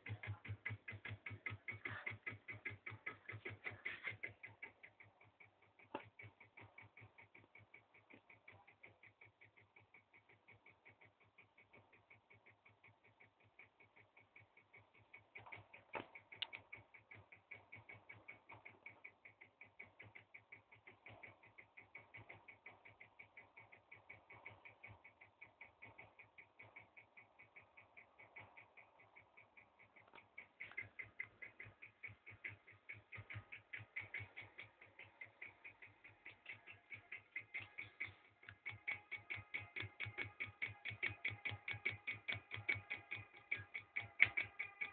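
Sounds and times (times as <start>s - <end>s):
motor ticking: 0.0s - 44.9s
sharp clicks: 0.0s - 44.9s.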